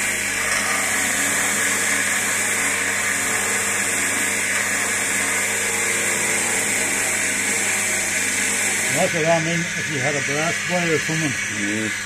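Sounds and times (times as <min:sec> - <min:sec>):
chisel hissing on spinning wood: 0:00.0 - 0:12.0
lathe motor hum: 0:00.0 - 0:12.0.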